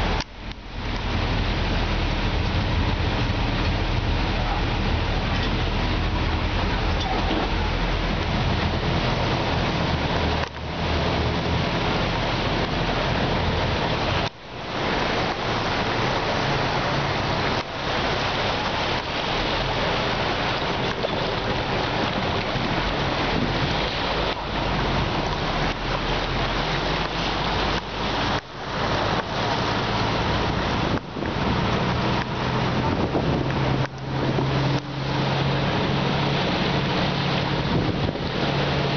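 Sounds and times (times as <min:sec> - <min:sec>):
bus engine drone: 0:00.0 - 0:38.9
water rushing and spraying: 0:00.0 - 0:38.9.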